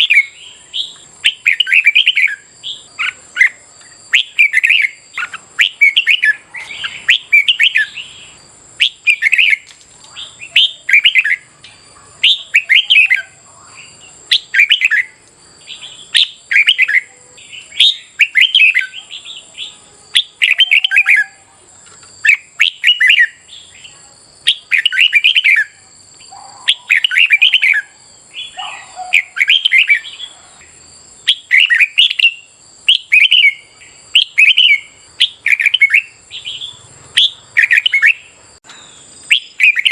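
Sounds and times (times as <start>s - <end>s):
bulbul warbling song: 0.0s - 21.5s, 22.2s - 30.4s, 31.2s - 39.9s.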